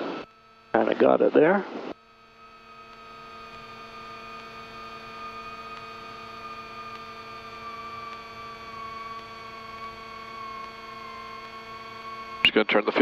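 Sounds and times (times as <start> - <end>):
twin aircraft engines whining: 2.1 - 13.0.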